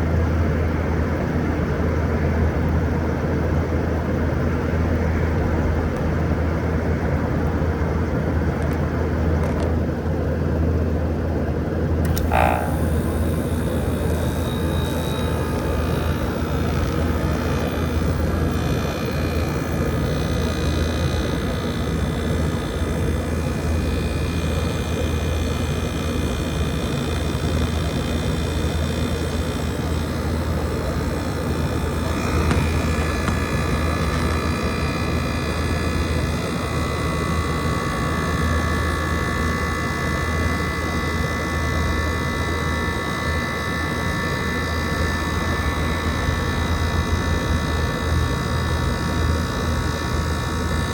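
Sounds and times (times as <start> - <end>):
air conditioner fan rush and hum: 0.0 - 50.9
air conditioner whine: 0.0 - 50.9.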